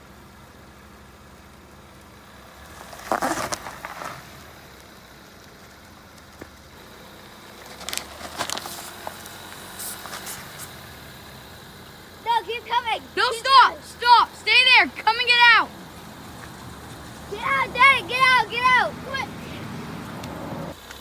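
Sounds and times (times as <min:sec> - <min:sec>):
car engine running low: 0:00.0 - 0:21.0.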